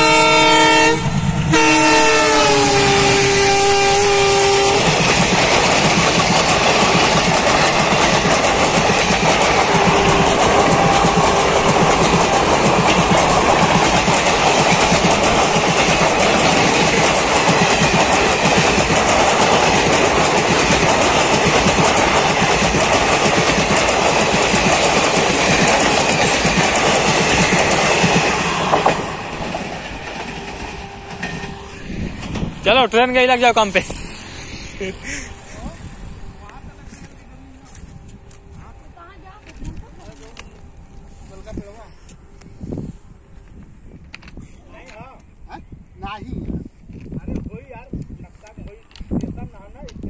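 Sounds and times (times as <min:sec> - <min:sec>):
train wheels rushing on rails: 0:00.0 - 0:50.0.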